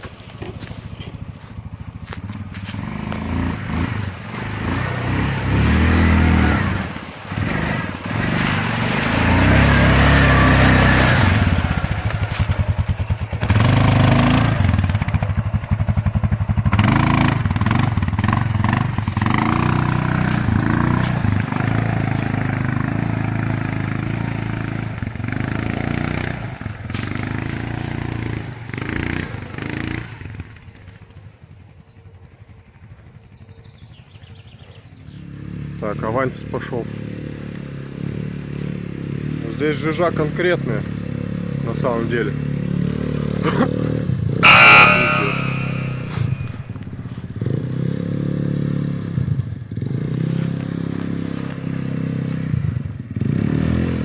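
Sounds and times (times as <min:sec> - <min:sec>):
quad bike engine revving: 0:00.0 - 0:31.1, 0:33.7 - 0:54.0.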